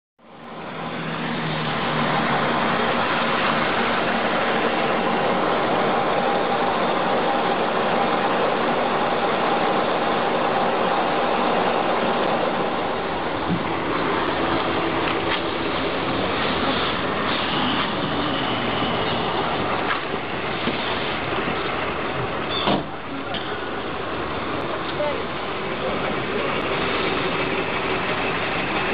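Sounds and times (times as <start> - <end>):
vehicle engine running: 0.2 - 22.6, 23.6 - 28.9.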